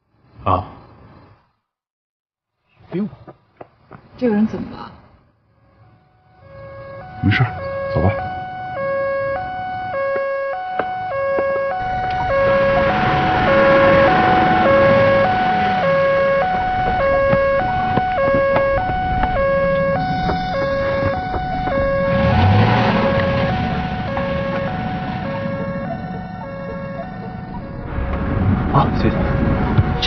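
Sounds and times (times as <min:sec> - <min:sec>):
vehicle rumble: 0:03.2 - 0:30.0
two-tone ambulance siren: 0:05.5 - 0:30.0.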